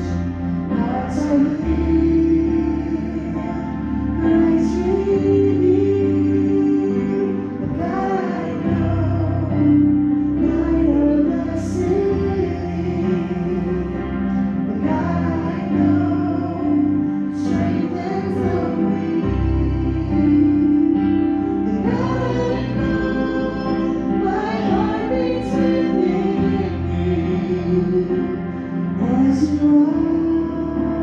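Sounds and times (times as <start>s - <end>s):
worship song singing: 0.0s - 31.0s.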